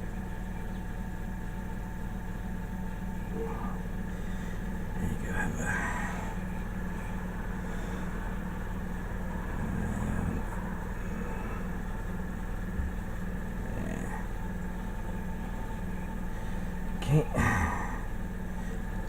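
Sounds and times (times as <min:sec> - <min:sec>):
small compressor humming: 0:00.0 - 0:19.0.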